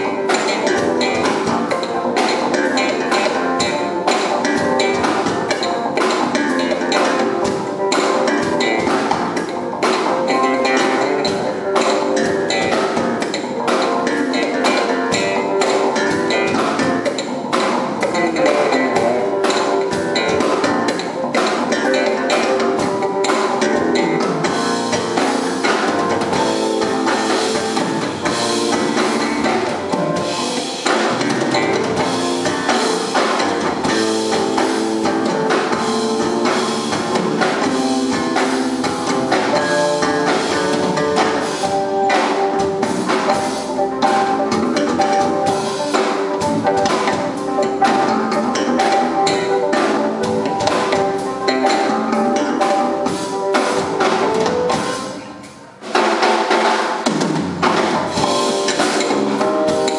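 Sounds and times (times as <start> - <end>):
electric bass: 0.0 - 55.2, 57.2 - 59.9
drum kit: 0.0 - 59.9
keyboard: 0.0 - 59.9.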